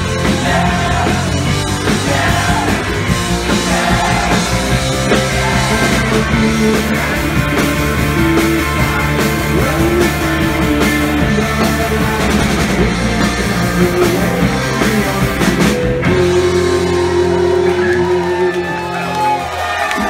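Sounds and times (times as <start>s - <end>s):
drum kit: 0.0s - 20.0s
rock band playing: 0.0s - 20.0s.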